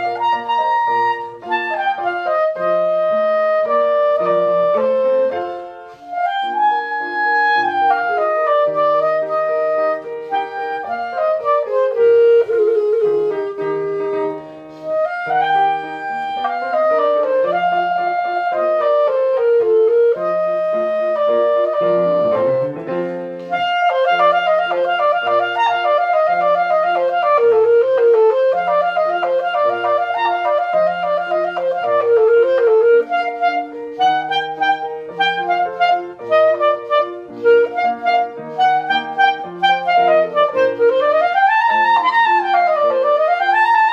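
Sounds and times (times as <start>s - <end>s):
lower accompaniment: 0.0s - 43.9s
solo clarinet playing: 0.0s - 43.9s.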